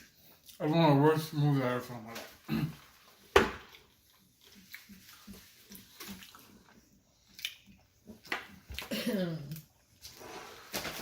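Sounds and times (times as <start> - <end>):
wet chewing: 0.0 - 1.0, 2.7 - 11.0.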